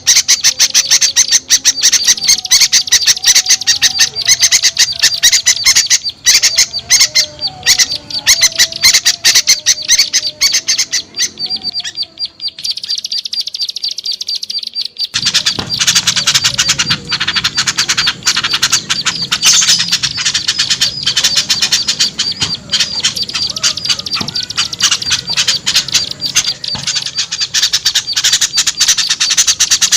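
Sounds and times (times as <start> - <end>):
high buzzy bird trill: 0.0 - 29.9
songbirds chattering: 0.0 - 29.9.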